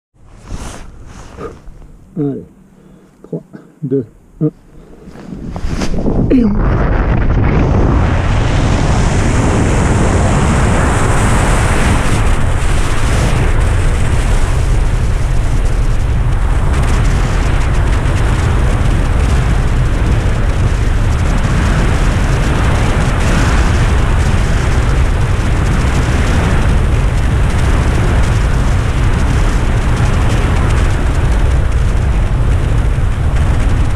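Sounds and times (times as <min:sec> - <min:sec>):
wind buffeting microphone: 0:04.1 - 0:33.9.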